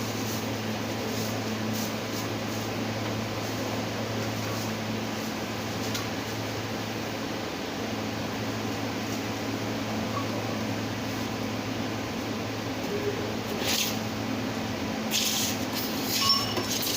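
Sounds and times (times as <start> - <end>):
steady mechanical hum: 0.0 - 16.9.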